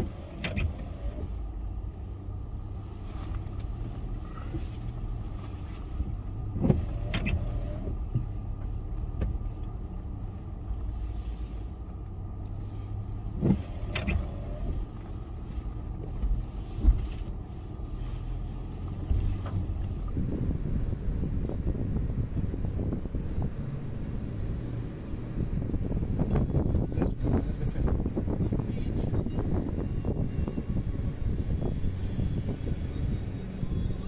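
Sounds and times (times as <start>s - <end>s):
low engine drone: 0.0s - 34.0s.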